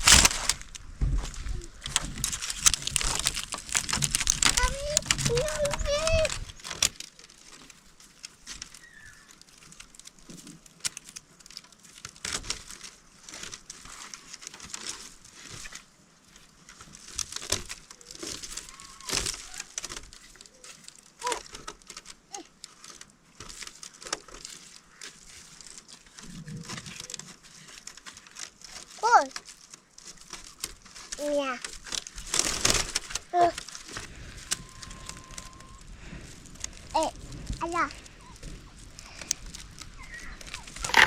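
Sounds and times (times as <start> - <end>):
rustling and crinkling: 0.0 - 41.0.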